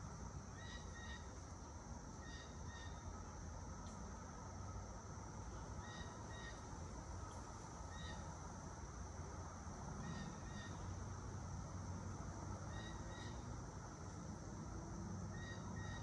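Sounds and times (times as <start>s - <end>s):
cicadas droning: 0.0s - 16.0s
light traffic rumble: 0.0s - 16.0s.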